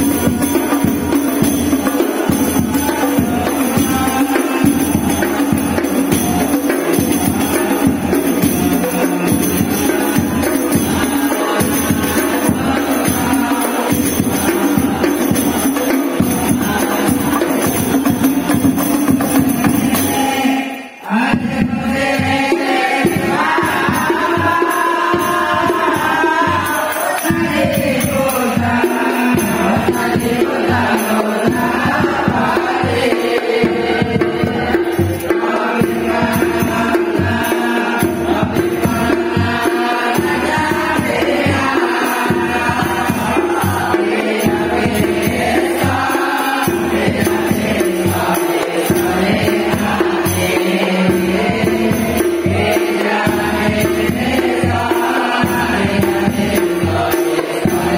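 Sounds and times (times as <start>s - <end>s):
small hand drum: 0.0s - 20.6s, 21.2s - 57.9s
frame drums: 0.0s - 57.9s
men chanting together: 0.0s - 57.9s.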